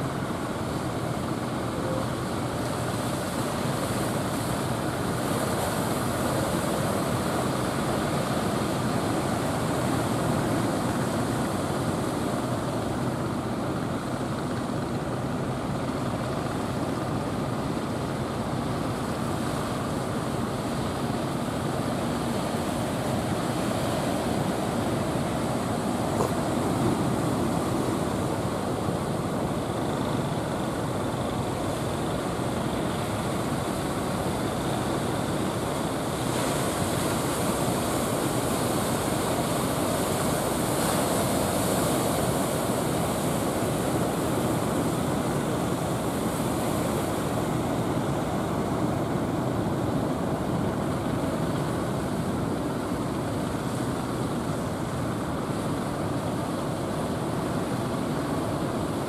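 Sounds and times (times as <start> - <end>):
boat engines droning: 0.0 - 59.0.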